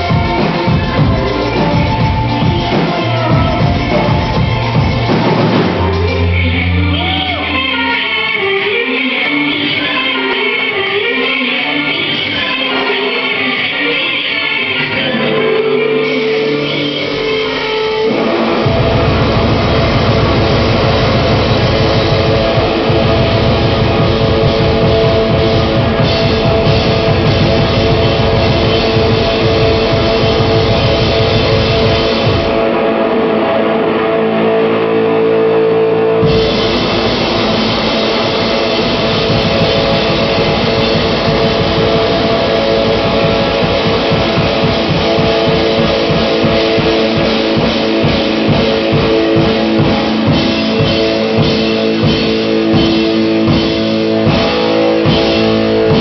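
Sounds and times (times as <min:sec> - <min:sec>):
drum kit: 0:00.0 - 0:11.2, 0:11.8 - 0:56.0
electric guitar: 0:00.0 - 0:56.0
keyboards: 0:00.0 - 0:56.0.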